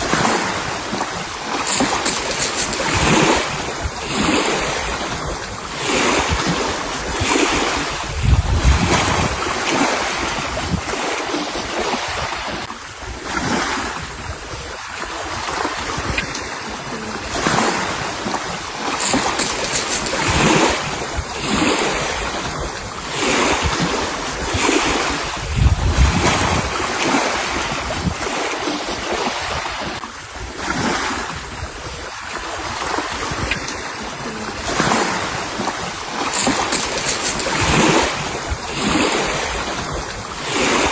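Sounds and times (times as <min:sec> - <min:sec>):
sea water washing: 0:00.0 - 0:40.9
wind buffeting microphone: 0:00.0 - 0:40.9.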